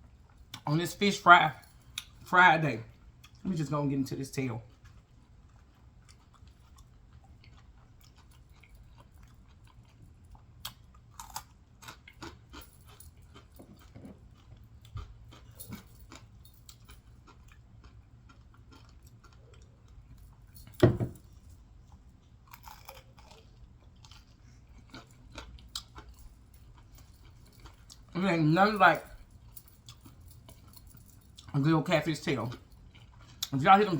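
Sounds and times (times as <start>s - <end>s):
chewing and crunching food: 0.0s - 33.9s.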